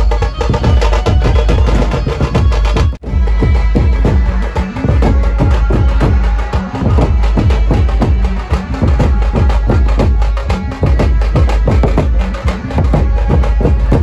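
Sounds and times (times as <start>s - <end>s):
drum band playing: 0.0s - 14.0s.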